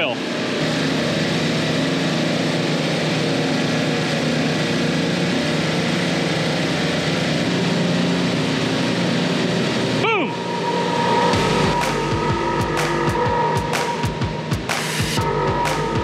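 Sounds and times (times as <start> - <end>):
refrigeration compressors droning: 0.0 - 16.0.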